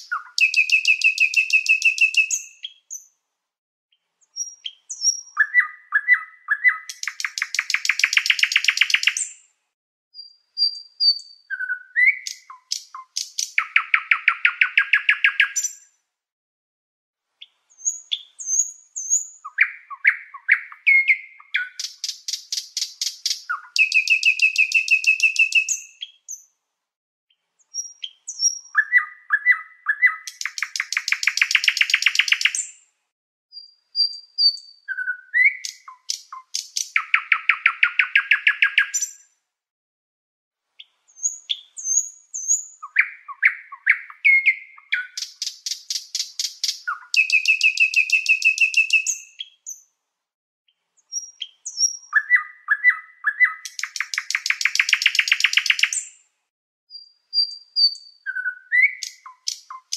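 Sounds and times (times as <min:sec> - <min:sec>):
songbird trilling: 0:00.0 - 0:03.1, 0:04.3 - 0:09.4, 0:10.2 - 0:15.8, 0:17.8 - 0:26.4, 0:27.7 - 0:32.7, 0:33.6 - 0:39.2, 0:41.2 - 0:49.8, 0:51.1 - 0:56.1, 0:56.9 - 0:59.9
bird chirps: 0:00.0 - 0:03.2, 0:03.9 - 0:09.5, 0:10.2 - 0:16.0, 0:17.4 - 0:26.5, 0:27.3 - 0:32.9, 0:33.5 - 0:39.4, 0:40.8 - 0:49.9, 0:50.7 - 0:56.3, 0:56.9 - 0:59.9.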